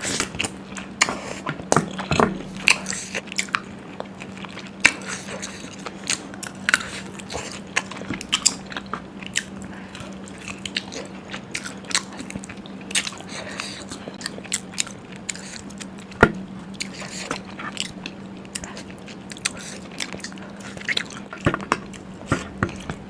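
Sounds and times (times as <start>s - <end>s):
chewing and crunching food: 0.0s - 23.0s
faint low hum: 0.0s - 23.0s.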